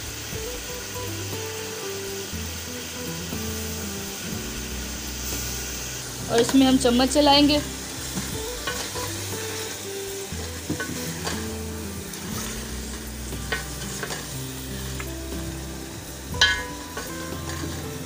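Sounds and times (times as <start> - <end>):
chicken sizzling in hot oil: 0.0 - 18.0.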